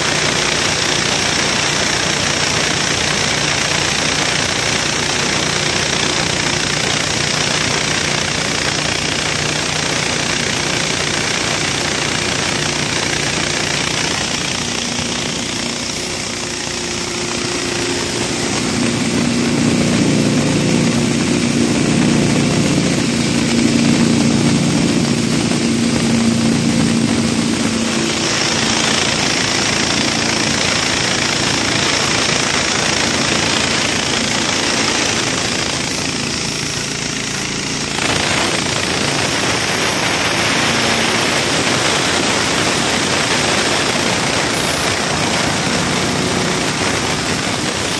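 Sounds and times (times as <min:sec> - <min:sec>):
small engine running grinding mill: 0:00.0 - 0:47.9.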